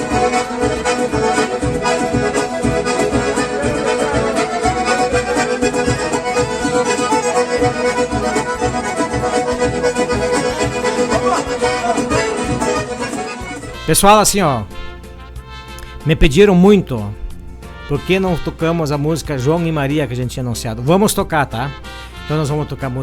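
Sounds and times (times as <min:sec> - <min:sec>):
bass and drums beat: 0:00.0 - 0:12.8, 0:13.4 - 0:20.6
accordion dance music: 0:00.0 - 0:23.0.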